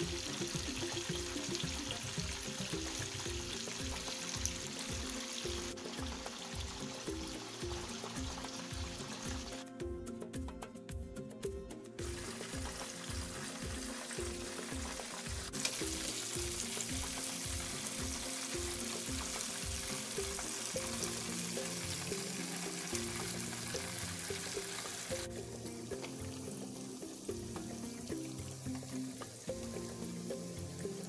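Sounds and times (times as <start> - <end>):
oil sizzling while deep-frying: 0.0 - 10.6, 12.0 - 31.0
background music with steady beat: 0.0 - 31.0.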